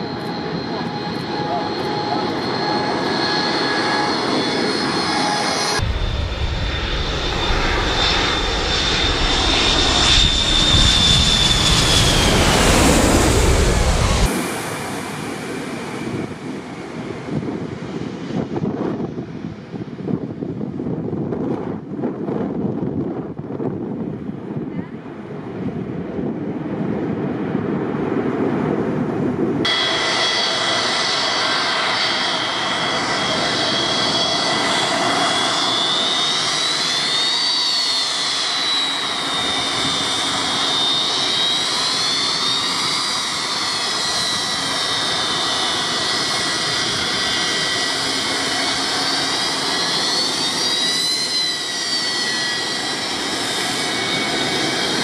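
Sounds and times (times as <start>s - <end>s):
deep jet rumble: 0.0s - 55.0s
jet engines whining high: 0.0s - 55.0s.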